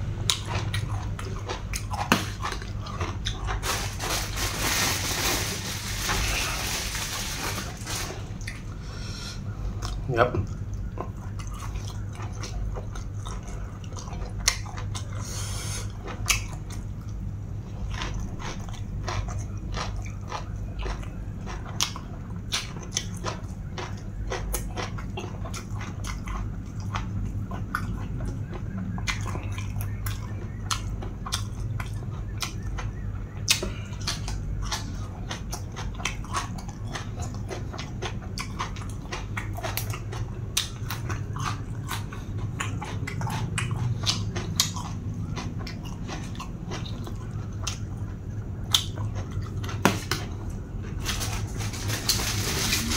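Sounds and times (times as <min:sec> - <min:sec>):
chewing with crisp crunches: 0:00.0 - 0:52.9
steady low hum: 0:00.0 - 0:52.9.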